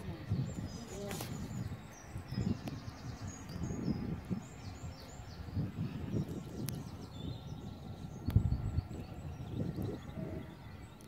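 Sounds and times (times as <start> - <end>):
low rumble: 0.0 - 11.0
small birds chirping and singing: 0.0 - 11.0.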